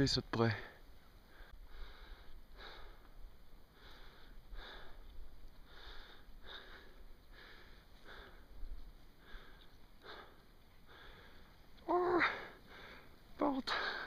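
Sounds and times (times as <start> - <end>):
person panting: 1.3 - 14.0.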